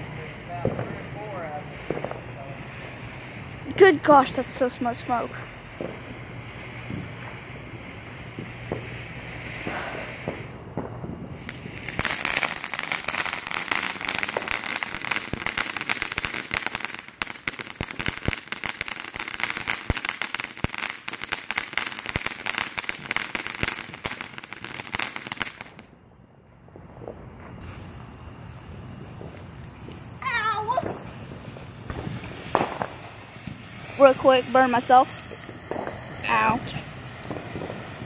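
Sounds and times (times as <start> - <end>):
fireworks hissing: 0.0 - 25.9, 27.5 - 38.0
fireworks crackling pops: 0.0 - 26.0, 26.8 - 38.0.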